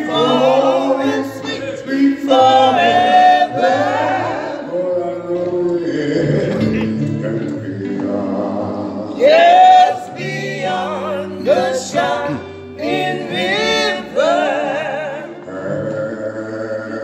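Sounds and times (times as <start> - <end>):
man singing into microphone: 0.0 - 17.0
women singing: 0.0 - 17.0.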